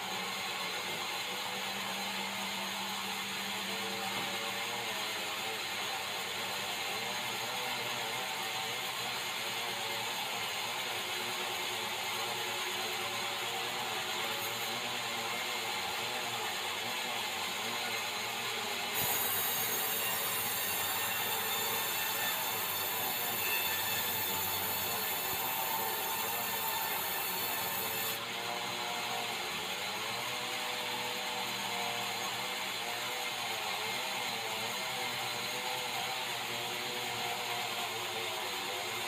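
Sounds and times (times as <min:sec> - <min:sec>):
band saw cutting wood: 0:00.0 - 0:39.0.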